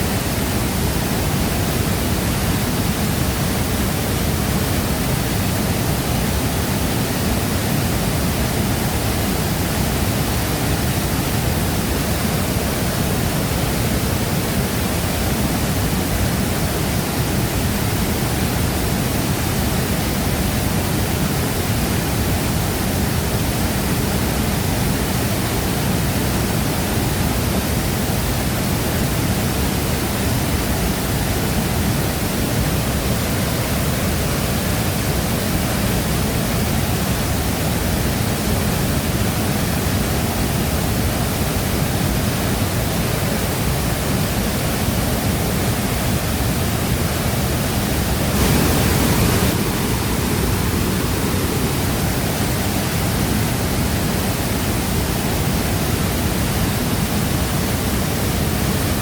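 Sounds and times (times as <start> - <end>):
waterfall crashing into pool: 0.0 - 59.0.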